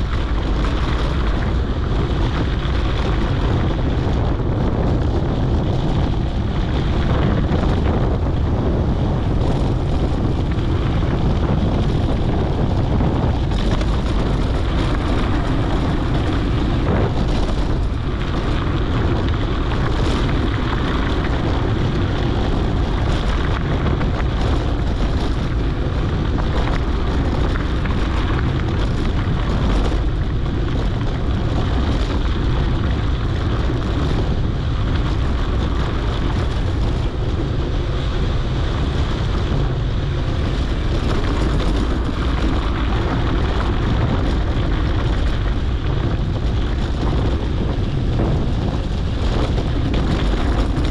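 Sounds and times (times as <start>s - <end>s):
bike tyres rolling on dirt trail: 0.0s - 50.9s
wind buffeting microphone: 0.0s - 50.9s
bike knocks and rattles: 6.8s - 50.9s.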